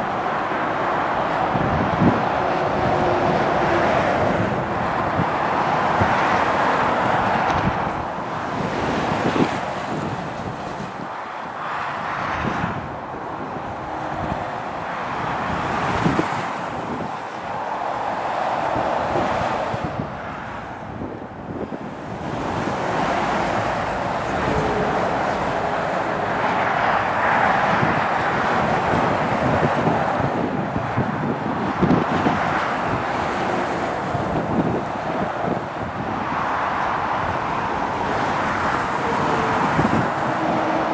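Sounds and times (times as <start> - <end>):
vehicles passing at speed: 0.0 - 40.9
wind buffeting microphone: 0.0 - 40.9.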